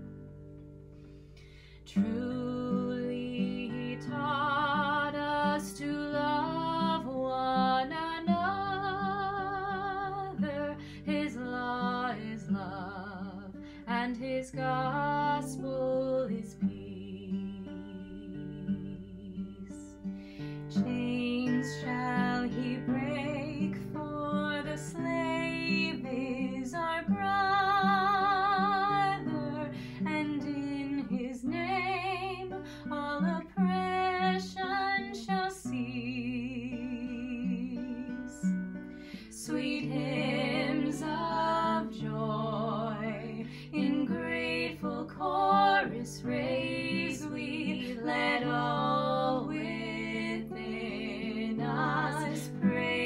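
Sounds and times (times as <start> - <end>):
acoustic guitar: 0.0 - 53.0
women singing: 1.9 - 38.5, 39.2 - 53.0.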